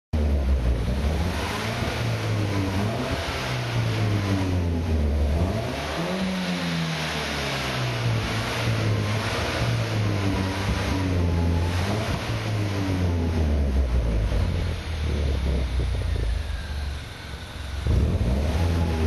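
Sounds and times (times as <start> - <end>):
car exhaust low drone: 0.2 - 19.0.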